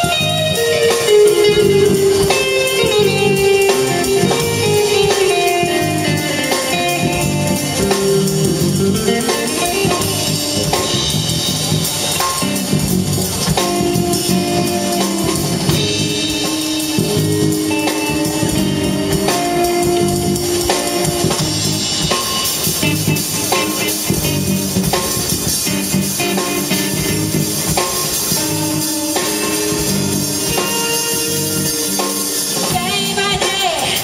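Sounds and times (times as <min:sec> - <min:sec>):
drum kit: 0:00.0 - 0:34.0
electric bass: 0:00.0 - 0:34.0
electric guitar: 0:00.0 - 0:34.0.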